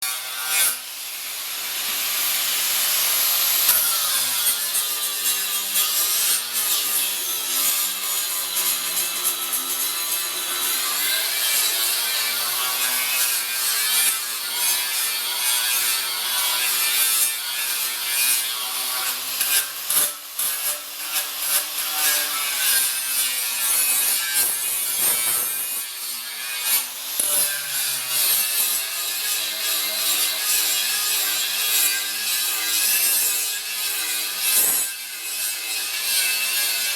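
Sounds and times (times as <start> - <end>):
electric grinder grinding steel: 0.0 - 36.9.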